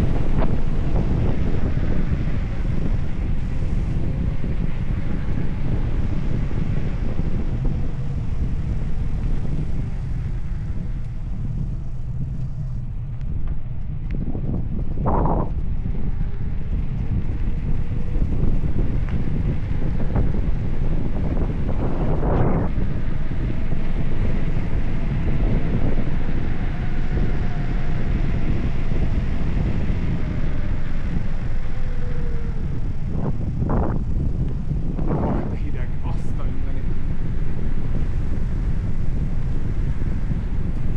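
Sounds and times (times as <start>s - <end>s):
faint thin whine: 0.0s - 40.9s
wind buffeting microphone: 0.0s - 40.9s.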